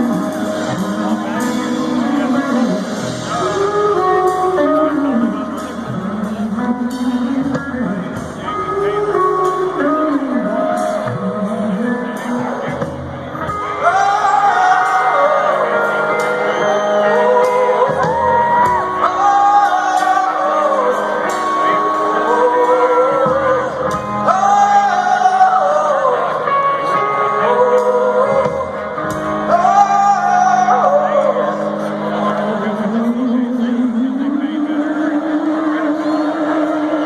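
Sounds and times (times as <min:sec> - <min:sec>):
live rock band playing: 0:00.0 - 0:37.0
man singing: 0:00.0 - 0:37.0.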